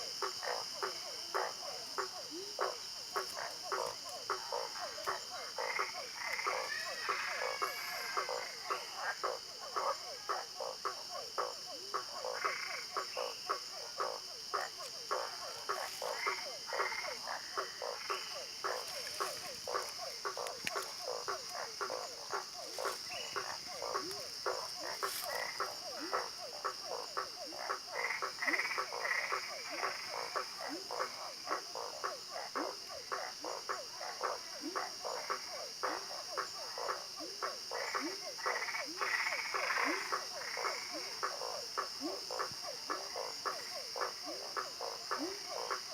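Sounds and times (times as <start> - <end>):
frogs croaking: 0.0 - 45.9.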